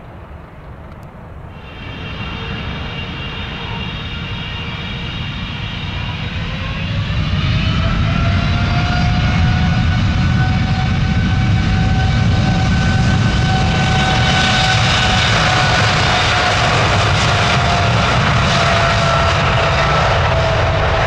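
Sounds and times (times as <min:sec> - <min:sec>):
jet engines spooling up: 0:01.6 - 0:21.0.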